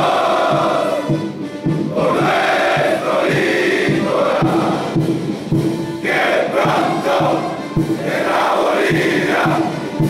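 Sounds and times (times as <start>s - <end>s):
male chorus singing: 0.0s - 1.2s, 1.8s - 5.1s, 6.0s - 10.0s
band playing: 0.0s - 10.0s.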